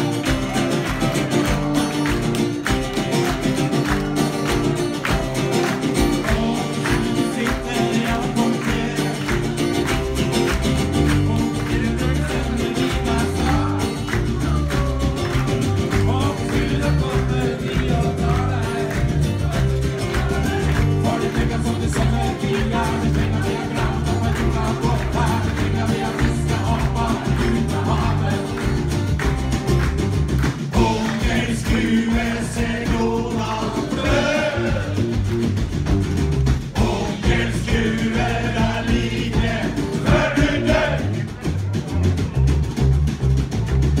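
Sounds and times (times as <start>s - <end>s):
band music: 0.0s - 44.0s.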